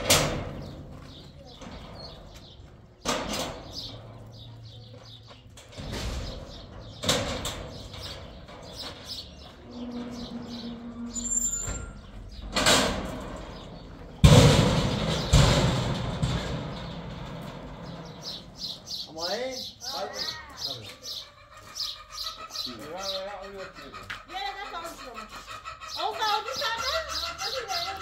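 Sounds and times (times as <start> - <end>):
bird chirping: 0.6 - 14.2, 15.0 - 28.0.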